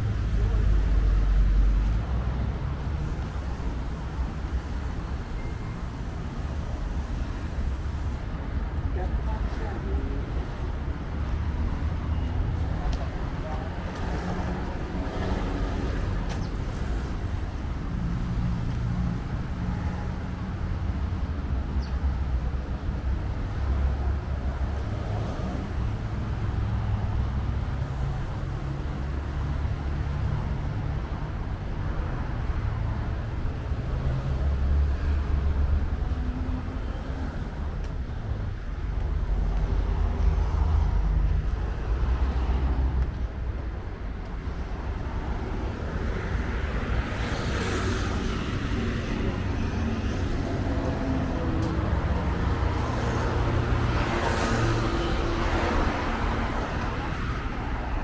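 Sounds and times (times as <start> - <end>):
passing cars rumbling: 0.0 - 58.0.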